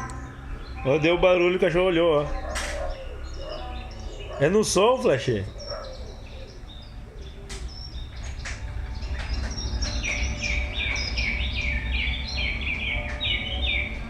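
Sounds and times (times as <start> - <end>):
birdsong through speakers: 0.0 - 14.0.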